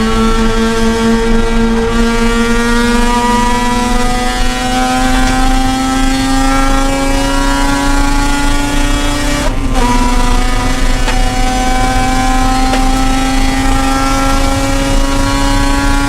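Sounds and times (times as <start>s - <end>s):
rotary engine accelerating: 0.0s - 16.0s.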